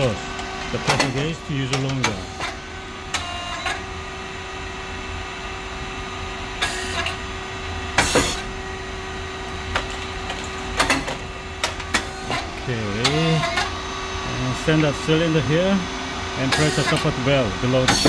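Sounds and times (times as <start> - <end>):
machine motor hum: 0.0 - 18.0.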